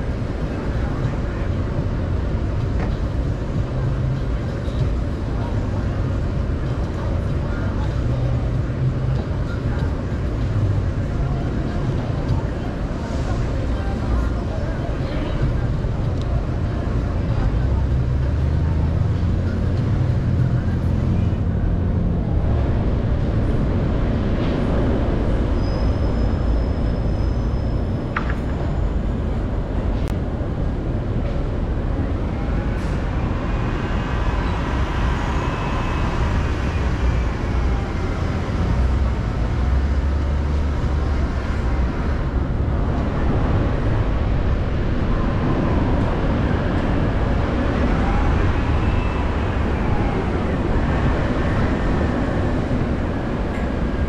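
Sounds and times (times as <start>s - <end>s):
car driving on city street: 0.0s - 54.0s.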